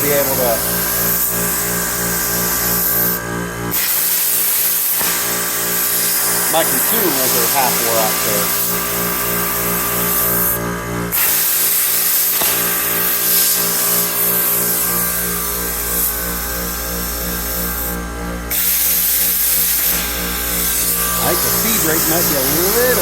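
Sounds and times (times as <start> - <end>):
air compressor humming: 0.0 - 23.0
plasma cutter hissing: 0.0 - 23.0.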